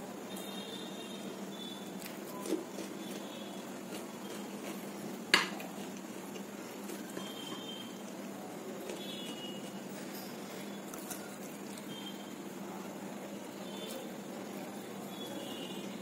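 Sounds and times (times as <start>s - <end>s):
eating by hand from crockery: 1.4s - 16.0s.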